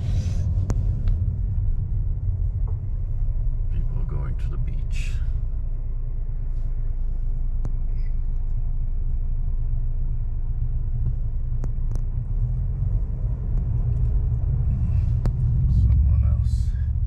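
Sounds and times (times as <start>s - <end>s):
car driving rumble inside cabin: 0.0s - 17.0s.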